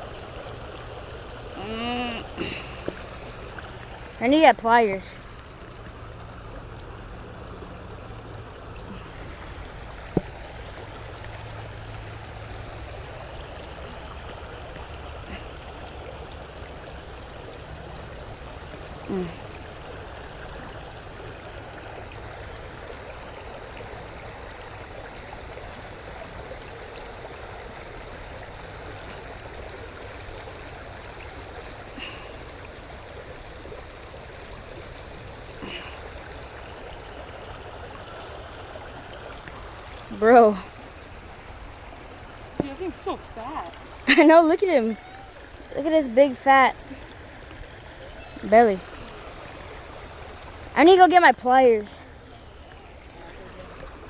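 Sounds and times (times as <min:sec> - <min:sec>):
creek water running: 0:00.0 - 0:54.0.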